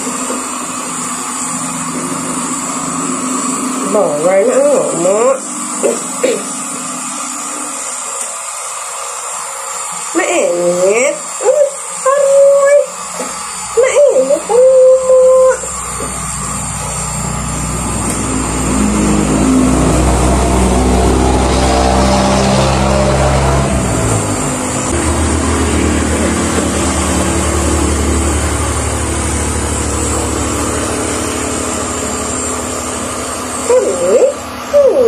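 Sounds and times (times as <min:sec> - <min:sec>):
hair dryer running: 0:00.0 - 0:35.0.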